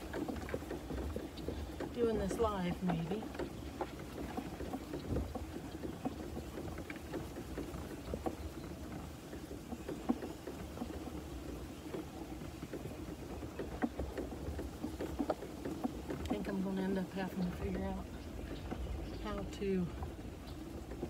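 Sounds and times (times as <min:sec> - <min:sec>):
cart rattles and ticks: 0:00.0 - 0:21.0.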